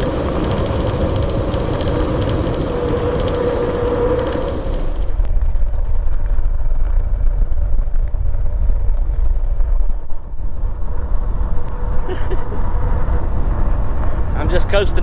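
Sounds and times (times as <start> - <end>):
tyre noise on trail: 0.0 - 15.0
wind buffeting microphone: 0.0 - 15.0.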